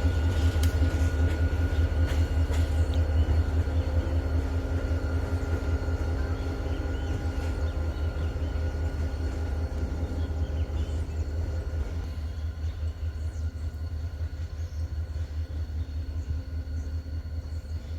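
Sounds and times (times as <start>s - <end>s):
train locomotive rumbling past: 0.0s - 17.9s.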